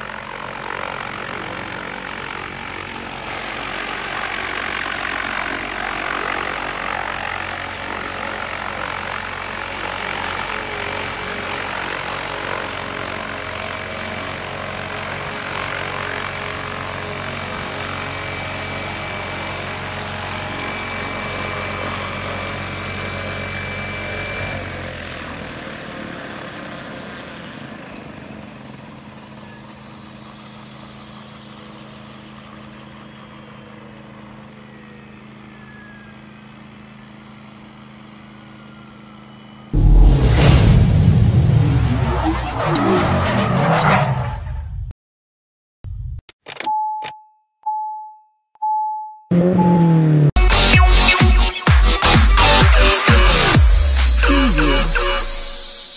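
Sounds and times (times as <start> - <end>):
helicopter drone running: 0.0 - 43.0, 49.3 - 55.9
rotor winding down whine: 0.0 - 43.2, 49.3 - 55.9.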